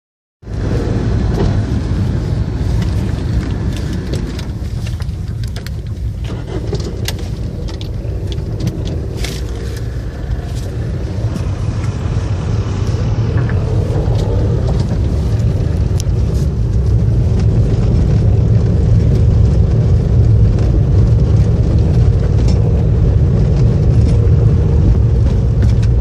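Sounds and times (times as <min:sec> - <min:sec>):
engine and tyres rumbling: 0:00.4 - 0:26.0
gravel clicks and knocks: 0:00.6 - 0:12.2, 0:12.8 - 0:26.0.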